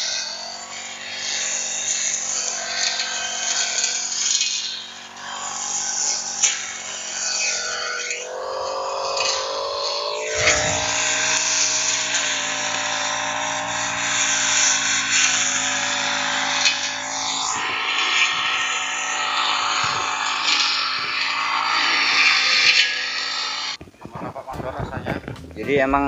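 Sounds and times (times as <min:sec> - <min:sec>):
brush cutter running: 0:00.0 - 0:23.9
blade cutting grass: 0:00.0 - 0:24.3.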